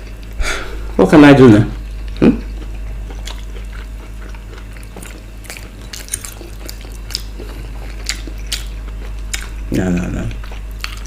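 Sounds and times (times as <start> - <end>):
chewing with wet mouth smacks: 2.0 - 11.0.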